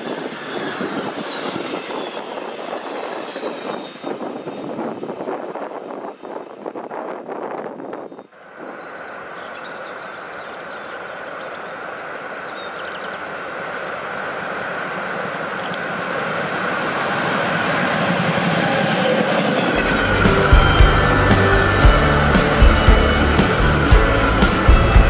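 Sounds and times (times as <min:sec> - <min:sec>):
electric locomotive approaching: 0:00.0 - 0:07.8, 0:08.4 - 0:25.0.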